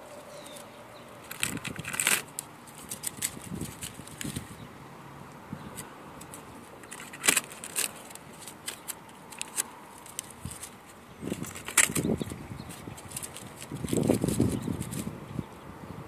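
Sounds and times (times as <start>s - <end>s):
tape peeling and crumpling: 0.0s - 4.6s, 5.7s - 15.2s.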